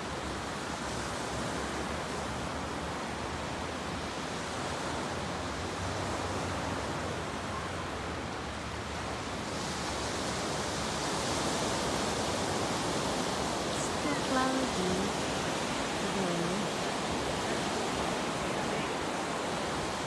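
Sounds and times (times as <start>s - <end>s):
sea waves breaking on sand: 0.0s - 20.0s.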